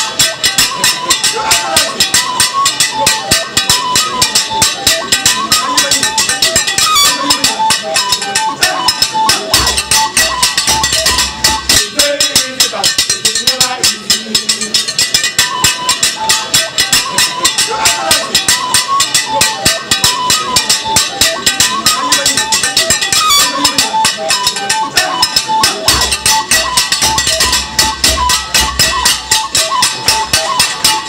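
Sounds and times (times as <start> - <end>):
fast steady drumming: 0.0 - 31.0
melody of short notes: 0.0 - 31.0.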